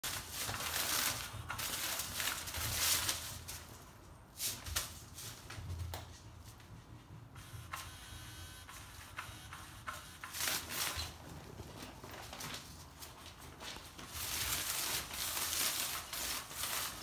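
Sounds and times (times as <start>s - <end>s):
kitten rustling on play mat: 0.0s - 7.0s, 10.3s - 17.0s.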